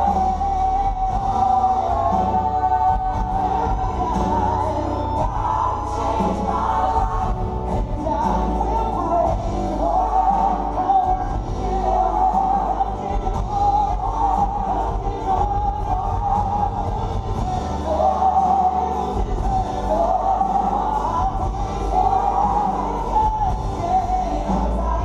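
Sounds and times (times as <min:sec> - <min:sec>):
band playing worship music: 0:00.0 - 0:25.0
steady bass: 0:00.0 - 0:25.0
voices singing melody: 0:00.0 - 0:25.0.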